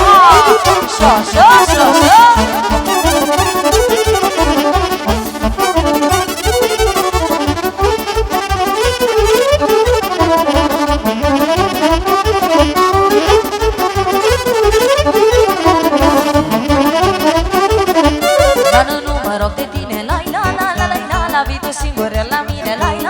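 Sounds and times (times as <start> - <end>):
lead melody instrument: 0.0 - 19.4
bass and drum beat: 0.0 - 23.0.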